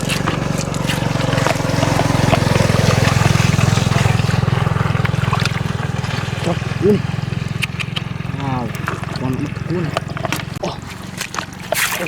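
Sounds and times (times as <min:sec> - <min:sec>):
small engine throbbing: 0:00.0 - 0:12.0
water splashing and clicking: 0:00.0 - 0:12.0.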